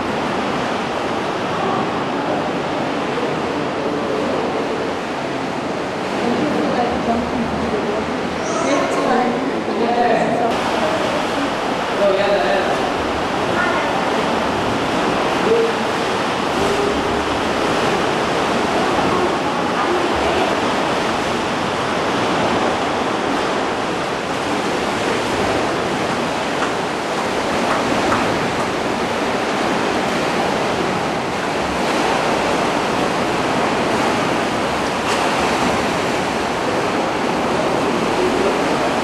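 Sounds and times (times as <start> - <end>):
sea waves surging through rocks: 0.0 - 39.0.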